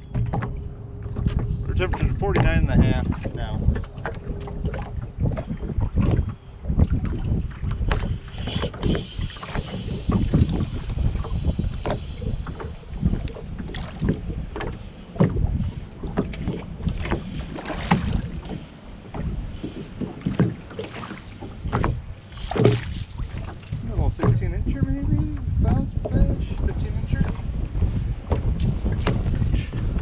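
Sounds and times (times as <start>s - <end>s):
waves slapping boat hull: 0.0s - 30.0s
wind buffeting microphone: 0.0s - 30.0s.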